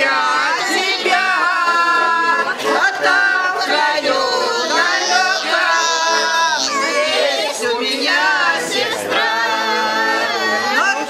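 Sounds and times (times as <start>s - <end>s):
button accordion: 0.0s - 11.0s
man and women singing: 0.0s - 11.0s.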